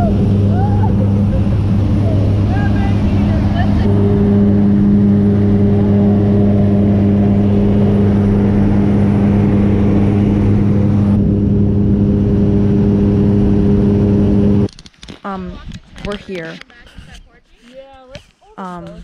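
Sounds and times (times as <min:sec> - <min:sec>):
propeller plane engine droning: 0:00.0 - 0:17.4.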